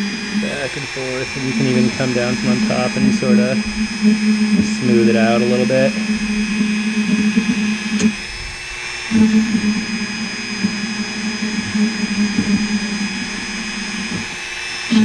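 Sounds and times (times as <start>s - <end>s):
rotary tool motor whine: 0.0s - 15.0s.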